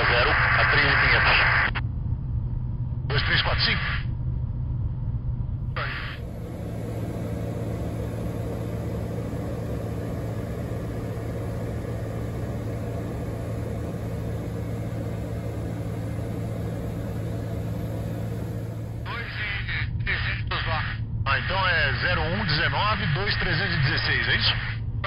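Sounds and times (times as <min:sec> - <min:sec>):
aircraft engine droning: 0:00.0 - 0:25.0.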